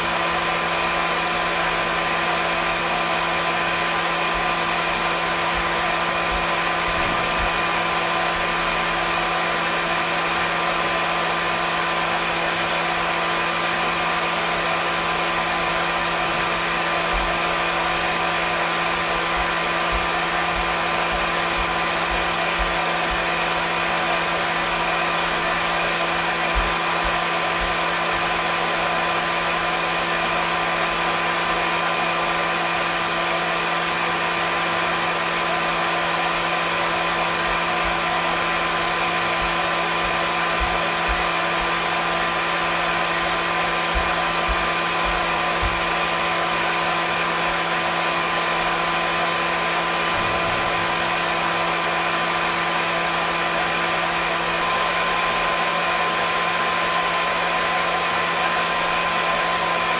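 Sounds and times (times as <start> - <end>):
hair dryer air rushing: 0.0 - 11.7, 12.4 - 59.9
hair dryer motor hum: 0.0 - 59.9.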